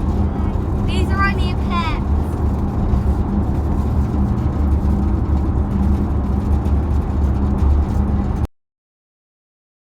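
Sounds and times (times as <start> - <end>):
car engine rumble: 0.0 - 8.5
road noise: 0.0 - 8.5.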